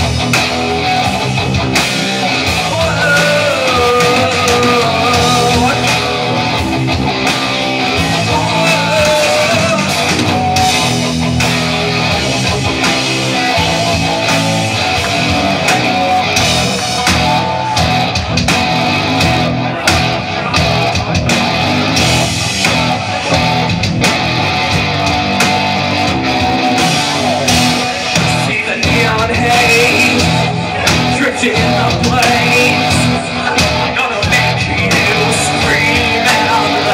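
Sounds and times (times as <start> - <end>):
bass guitar: 0.0 - 36.9
distorted electric guitars: 0.0 - 36.9
drums and cymbals: 0.0 - 36.9.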